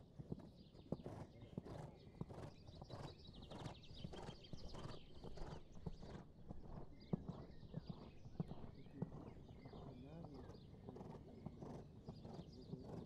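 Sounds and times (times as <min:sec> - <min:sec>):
horse hooves cantering on sand: 0:00.1 - 0:13.0.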